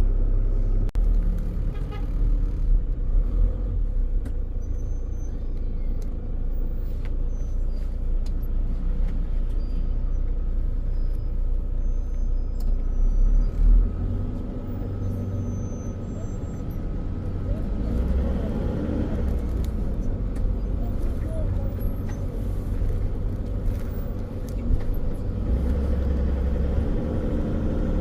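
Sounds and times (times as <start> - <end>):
road noise: 0.0 - 28.0
vehicle engine rumble: 0.0 - 28.0.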